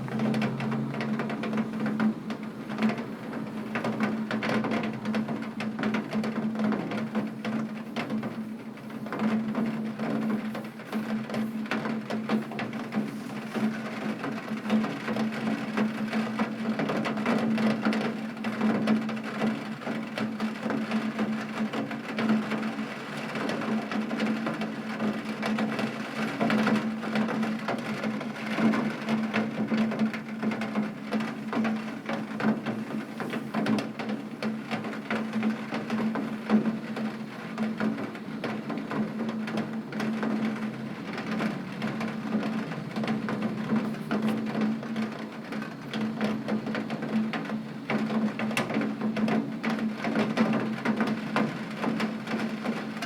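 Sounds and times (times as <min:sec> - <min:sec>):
rain on a tin roof: 0:00.0 - 0:53.0.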